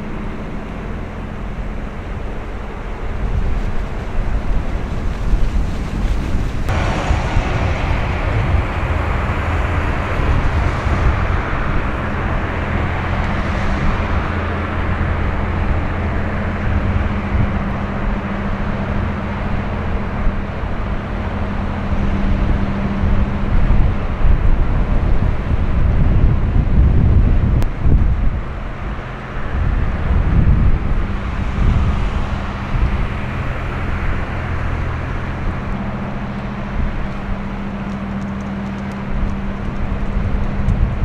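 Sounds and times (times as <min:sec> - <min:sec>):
ship engines droning: 0:00.0 - 0:41.0
wind and water rushing: 0:00.0 - 0:41.0.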